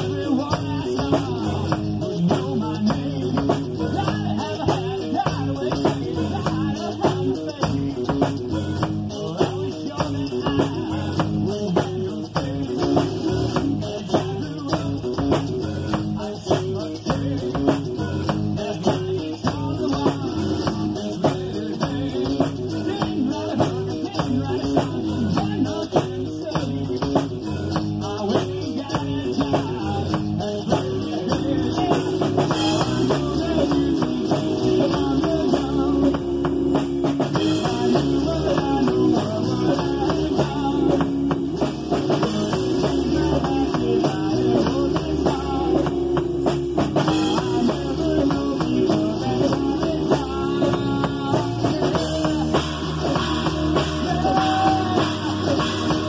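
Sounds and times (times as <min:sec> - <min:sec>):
drum kit: 0:00.0 - 0:56.0
guitar: 0:00.0 - 0:56.0
rock band playing: 0:00.0 - 0:56.0.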